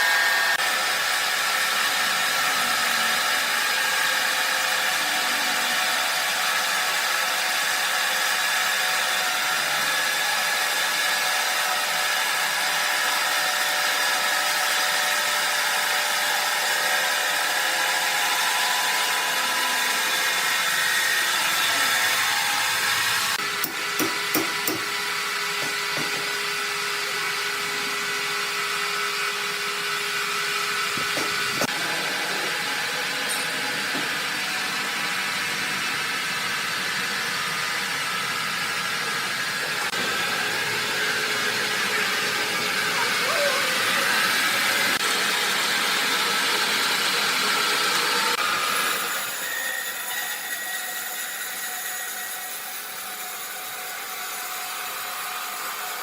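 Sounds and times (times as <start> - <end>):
saw whining through log: 0.0 - 56.0.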